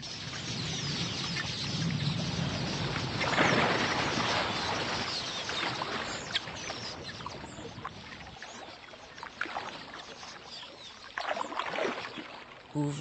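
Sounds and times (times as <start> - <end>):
water splashing and churning: 1.8 - 13.0.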